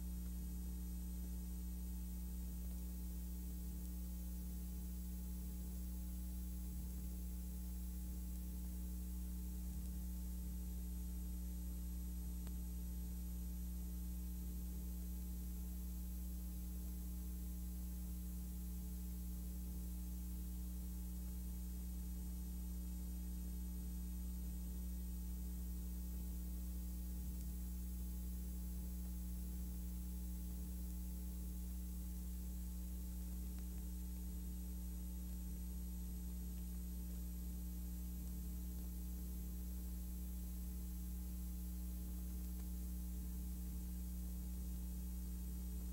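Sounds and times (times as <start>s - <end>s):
low electrical hum: 0.0s - 45.9s.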